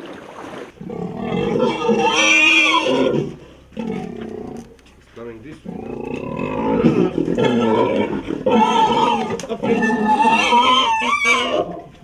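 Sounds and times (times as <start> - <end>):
pig screaming: 0.8 - 4.6, 5.7 - 12.0.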